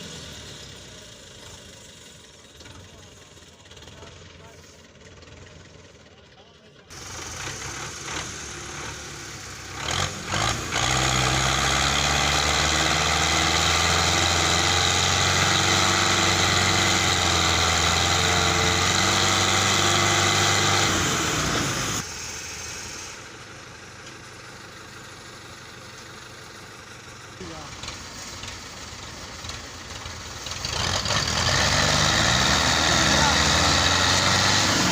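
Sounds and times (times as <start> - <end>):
diesel tractor engine revving: 0.0 - 34.9.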